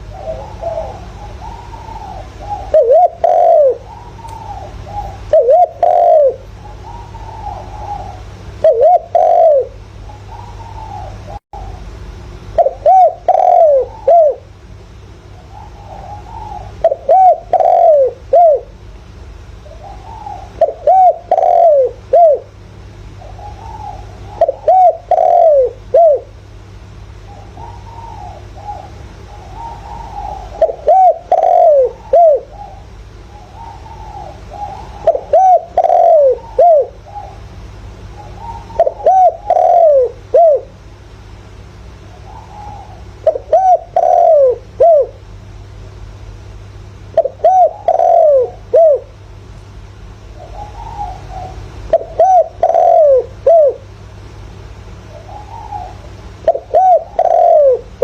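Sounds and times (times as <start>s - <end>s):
dove cooing: 0.0s - 14.6s, 15.2s - 18.9s, 19.6s - 45.3s, 47.0s - 49.3s, 50.1s - 54.0s, 54.9s - 58.0s
steady low hum: 0.0s - 58.0s.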